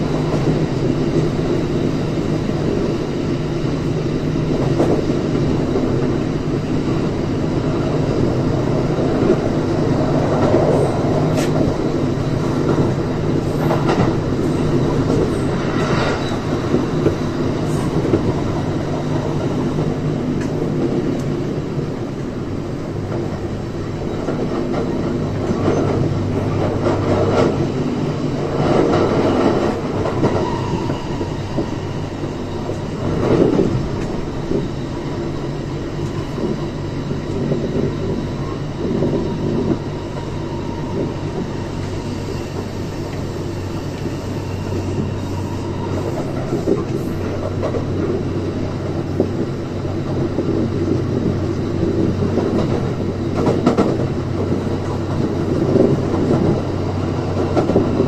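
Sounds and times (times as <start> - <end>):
electric train hum: 0.0 - 58.0.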